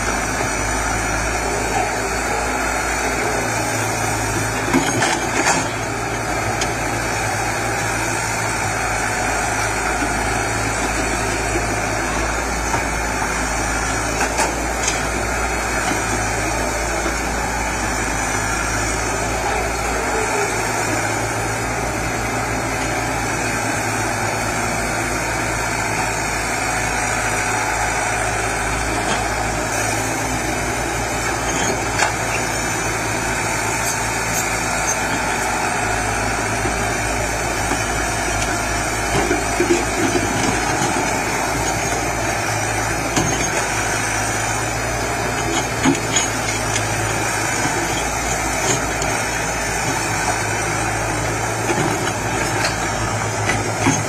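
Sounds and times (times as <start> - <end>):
excavator diesel engines running: 0.0 - 54.0.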